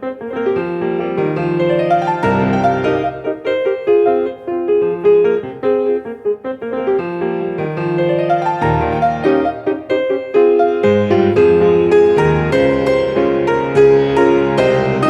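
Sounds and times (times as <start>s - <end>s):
solo piano playing: 0.0s - 15.0s.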